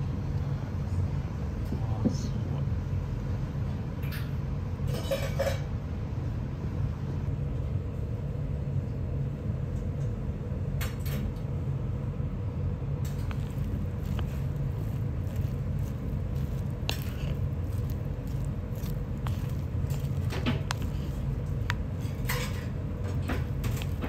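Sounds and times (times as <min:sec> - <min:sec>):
low room rumble: 0:00.0 - 0:24.0.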